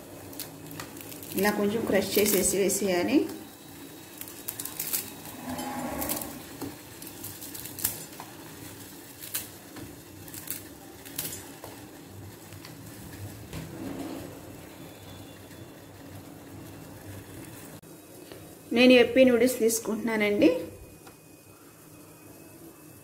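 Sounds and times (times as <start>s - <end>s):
water boiling in a pot: 0.0s - 23.0s.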